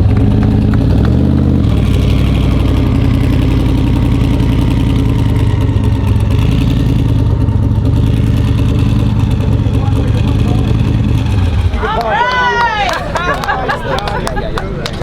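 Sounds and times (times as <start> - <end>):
car engine running loud: 0.0 - 15.0.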